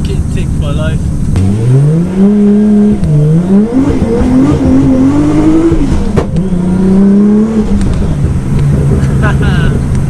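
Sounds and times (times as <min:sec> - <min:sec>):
car engine pulling under load: 0:01.0 - 0:10.0.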